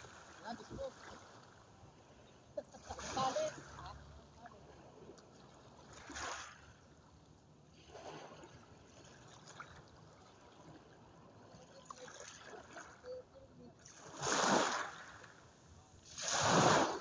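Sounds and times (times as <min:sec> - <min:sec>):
small waves washing onto shore: 0:00.0 - 0:17.0.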